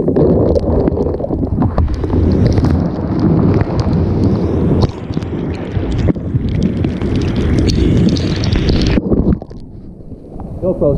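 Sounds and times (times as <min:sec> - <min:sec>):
wind buffeting microphone: 0:00.0 - 0:10.9
raindrops ticking on camera housing: 0:00.4 - 0:09.7.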